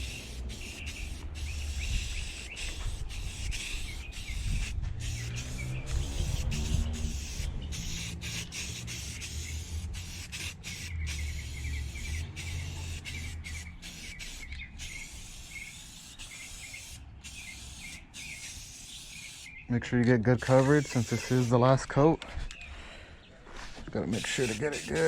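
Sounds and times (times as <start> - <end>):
paint spraying in short bursts: 0.0 - 19.6, 20.4 - 21.6, 24.1 - 25.0.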